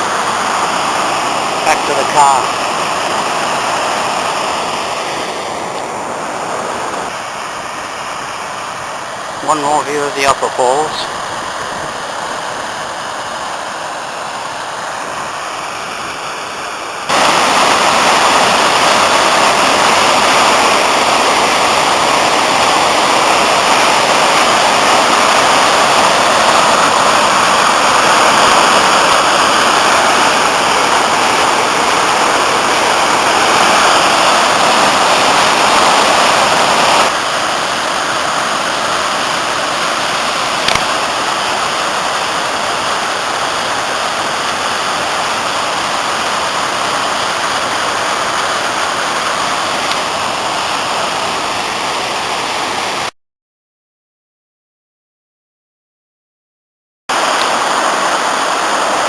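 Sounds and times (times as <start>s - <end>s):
waterfall rushing: 0.0s - 53.1s, 57.1s - 59.0s.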